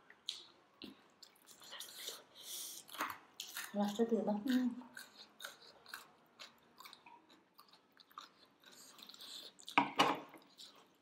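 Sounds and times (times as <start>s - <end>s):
person chewing dumplings: 0.0s - 11.0s.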